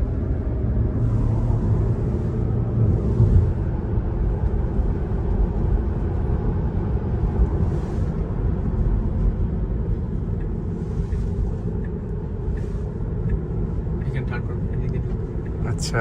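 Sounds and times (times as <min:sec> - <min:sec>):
road and tyre rumble in car: 0:00.0 - 0:16.0.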